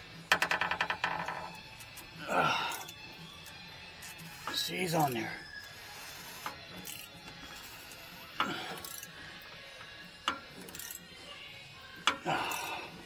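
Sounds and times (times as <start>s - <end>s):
radio playing music: 0.0s - 13.0s.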